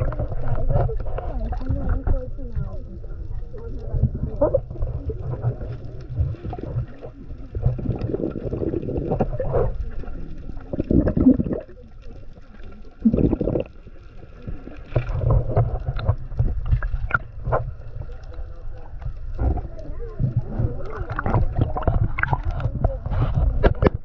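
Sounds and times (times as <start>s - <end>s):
underwater rushing and gurgling: 0.0s - 24.0s.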